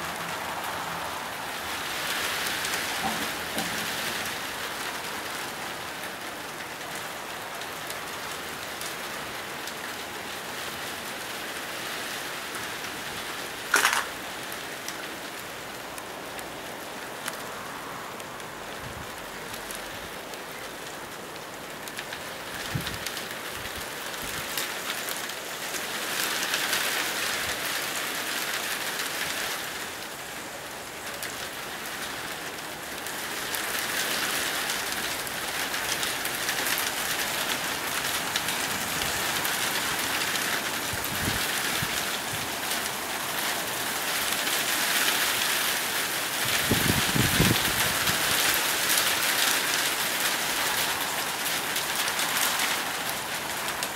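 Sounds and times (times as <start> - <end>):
heavy rain pattering: 0.0 - 53.9.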